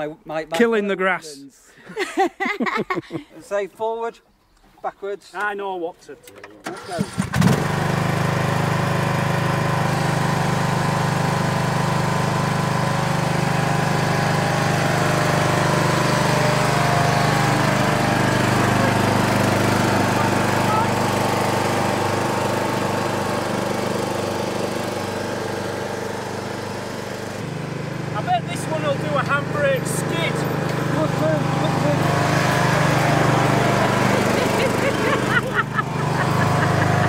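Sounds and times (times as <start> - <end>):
lawn mower engine running: 6.6 - 37.0.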